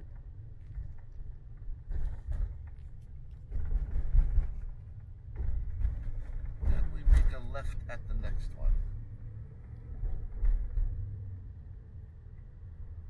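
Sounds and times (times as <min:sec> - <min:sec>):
van rumbling while driving: 0:00.0 - 0:13.0.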